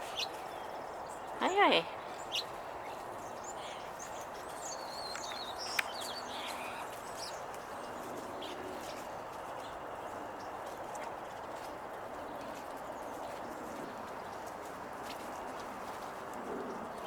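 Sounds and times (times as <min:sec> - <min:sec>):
small birds chirping: 0:00.0 - 0:17.0
steady background noise: 0:00.0 - 0:17.0.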